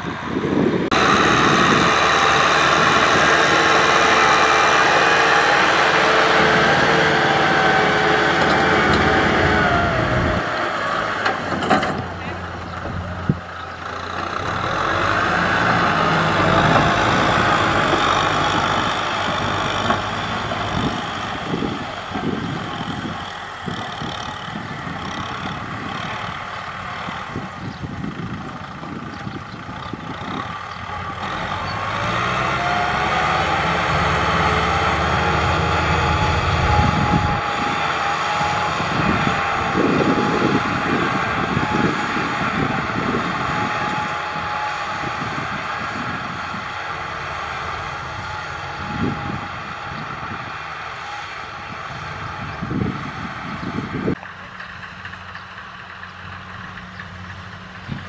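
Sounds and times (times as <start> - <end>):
tractor diesel engine under load: 0.0 - 58.0
plough discs grinding through soil: 0.9 - 54.2.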